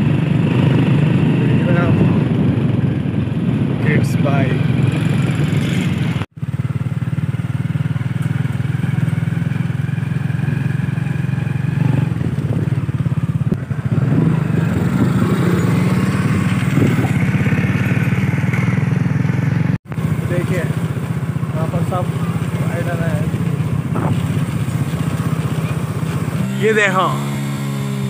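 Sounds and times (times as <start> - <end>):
small petrol engines running: 0.0 - 28.0.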